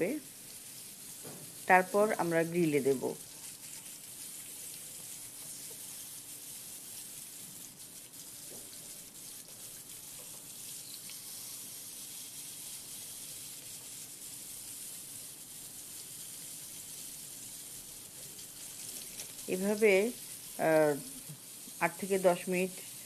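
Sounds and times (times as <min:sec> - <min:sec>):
chicken sizzling in frying pan: 0:00.0 - 0:23.0.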